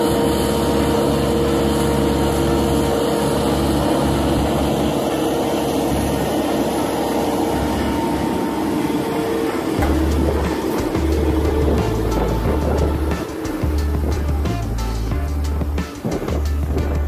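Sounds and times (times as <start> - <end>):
crane engine drone: 0.0 - 17.0
steady whine: 0.0 - 17.0.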